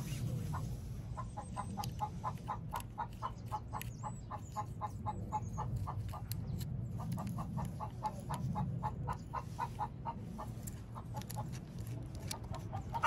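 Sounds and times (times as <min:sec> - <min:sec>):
chicken clucking rapidly: 0:00.5 - 0:13.0.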